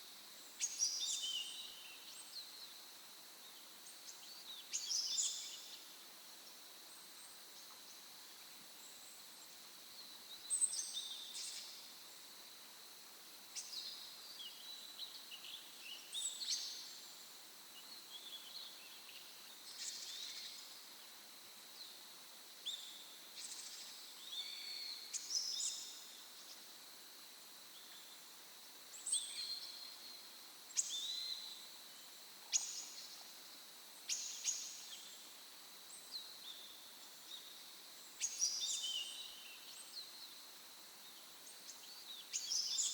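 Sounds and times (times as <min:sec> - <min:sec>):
faint outdoor ambience hiss: 0:00.0 - 0:42.9
songbirds chirping: 0:00.0 - 0:42.9.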